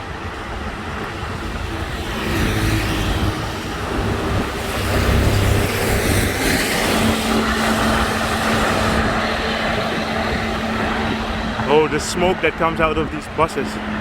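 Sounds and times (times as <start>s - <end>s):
low engine hum: 0.0s - 14.0s
vehicles passing close by: 0.0s - 14.0s.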